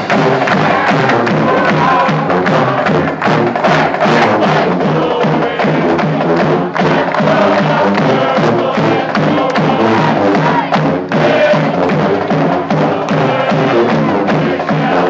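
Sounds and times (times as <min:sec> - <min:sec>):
driving drum beat: 0:00.0 - 0:15.0
marching band playing: 0:00.0 - 0:15.0.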